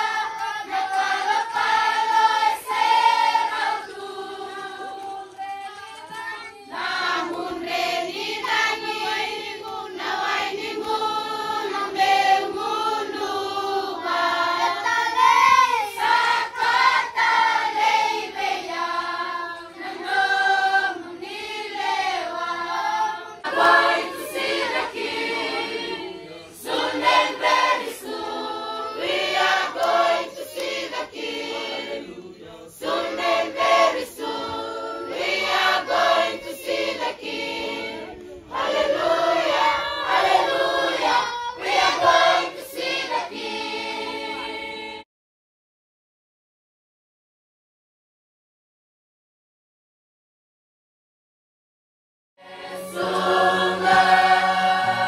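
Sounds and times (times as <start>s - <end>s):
choir singing: 0.0s - 45.1s, 52.4s - 55.0s.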